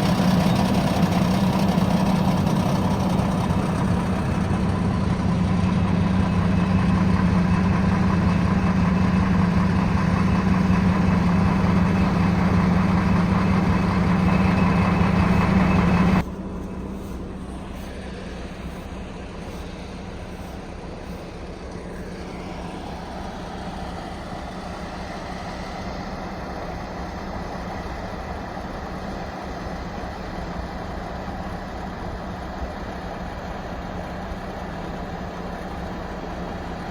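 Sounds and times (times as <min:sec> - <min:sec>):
diesel engine low hum: 0:00.0 - 0:36.9.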